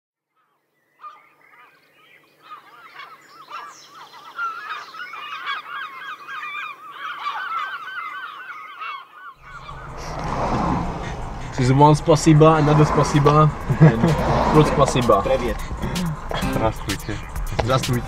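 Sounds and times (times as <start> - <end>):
flock of birds calling: 0.4 - 13.4, 14.1 - 18.0.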